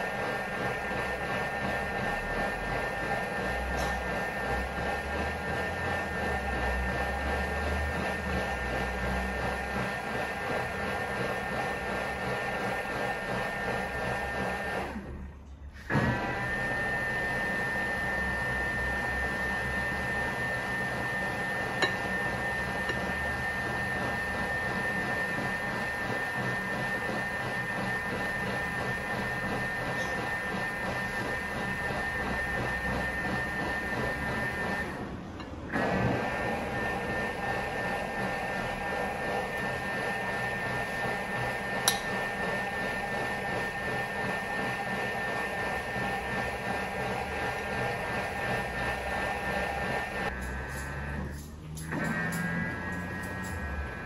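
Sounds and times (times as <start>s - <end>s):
food processor motor whirring: 0.0s - 15.2s, 15.8s - 54.0s.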